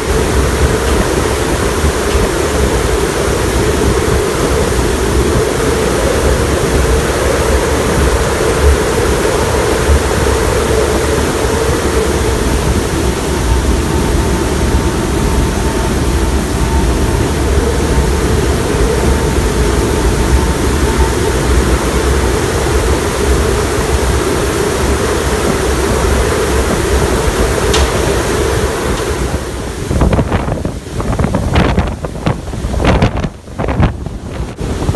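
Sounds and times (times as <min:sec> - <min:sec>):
strong wind buffeting microphone: 0:00.0 - 0:34.9.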